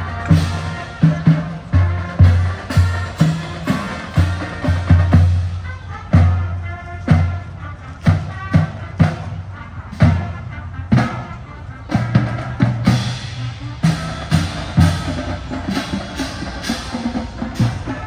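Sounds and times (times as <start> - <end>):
music with drum beat: 0.0 - 18.0.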